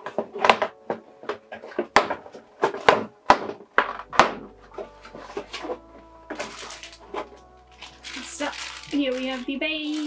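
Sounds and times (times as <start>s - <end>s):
plastic packaging clicks and knocks: 0.0s - 10.0s.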